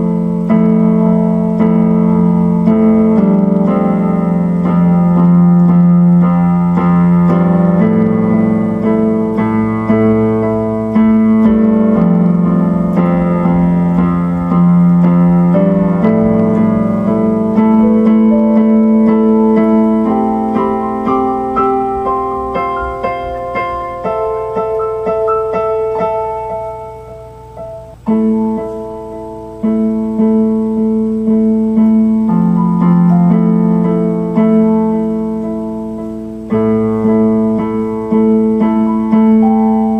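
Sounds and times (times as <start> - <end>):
electronic keyboard piano chords: 0.0 - 39.9.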